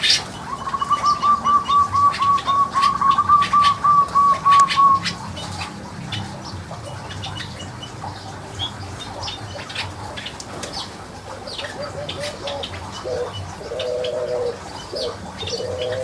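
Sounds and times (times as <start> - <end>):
birds chirping and clicking: 0.0 - 16.0
dove cooing: 0.0 - 16.0.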